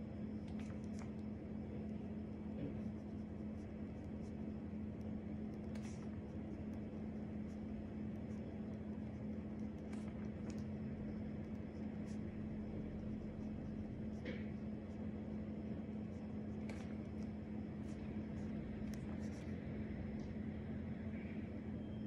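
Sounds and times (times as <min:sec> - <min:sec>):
low electrical hum: 0:00.0 - 0:22.0
pen scratching on paper: 0:00.5 - 0:19.5.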